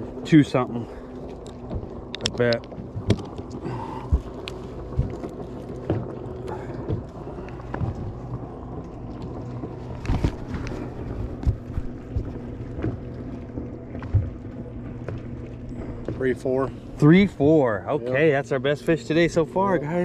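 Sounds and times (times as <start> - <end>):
boat motor humming: 0.0 - 20.0
knocks and bumps on boat: 1.6 - 17.6.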